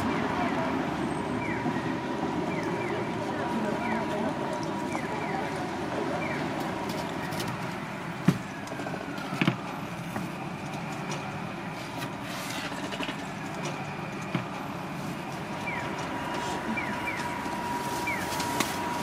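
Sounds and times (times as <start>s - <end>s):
street ambience hum: 0.0s - 19.0s.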